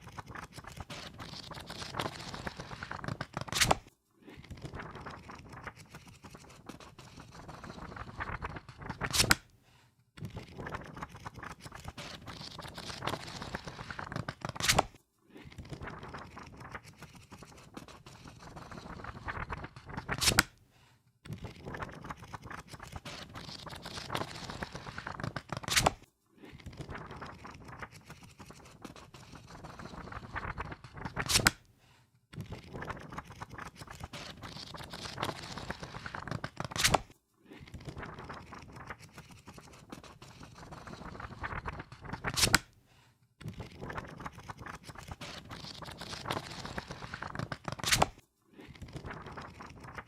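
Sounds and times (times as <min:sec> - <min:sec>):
book pages riffling: 0:00.0 - 0:09.4, 0:10.3 - 0:20.6, 0:21.4 - 0:31.6, 0:32.5 - 0:42.7, 0:43.6 - 0:50.0
pages slapping: 0:00.0 - 0:09.5, 0:10.3 - 0:20.6, 0:21.5 - 0:31.7, 0:32.5 - 0:42.8, 0:43.6 - 0:50.0.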